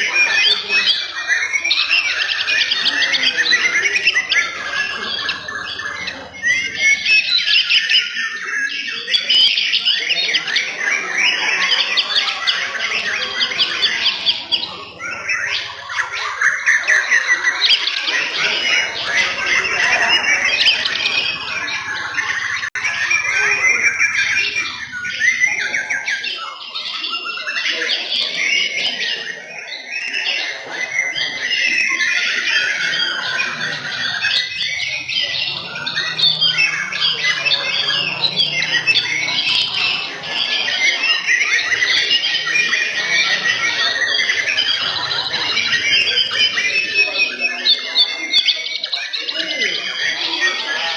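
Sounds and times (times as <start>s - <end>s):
birds singing whistled phrases: 0.0s - 50.9s.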